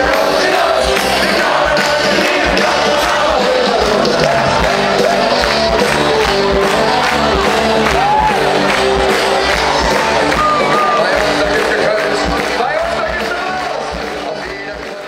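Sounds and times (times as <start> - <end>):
band playing upbeat music: 0.0 - 15.0
crowd shouting and cheering: 0.0 - 15.0.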